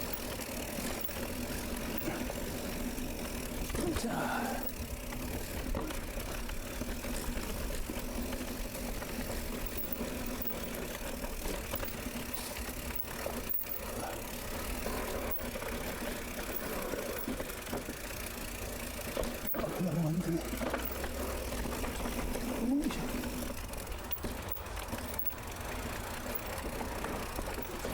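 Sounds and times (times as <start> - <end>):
bike tyres rumbling on dirt: 0.0 - 27.9.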